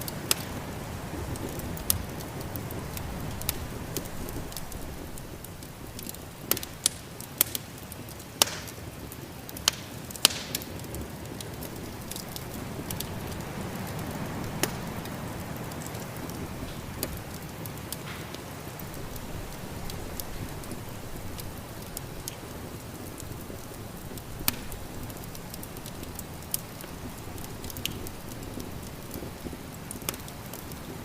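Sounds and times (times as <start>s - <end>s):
snowstorm wind rushing: 0.0s - 6.8s, 11.6s - 29.8s
wood fire crackling and popping: 0.0s - 31.0s.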